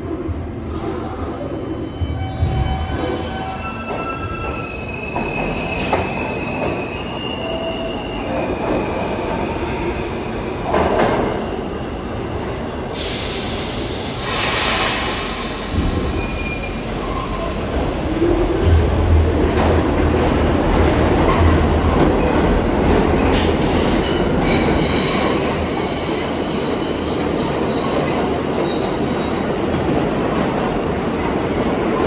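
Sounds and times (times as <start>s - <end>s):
subway train rumbling on rails: 0.0s - 32.0s.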